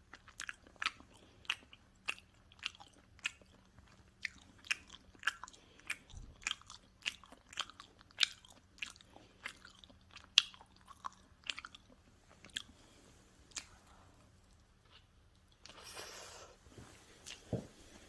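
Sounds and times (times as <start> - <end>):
crunchy chewing of pizza: 0.0 - 16.5.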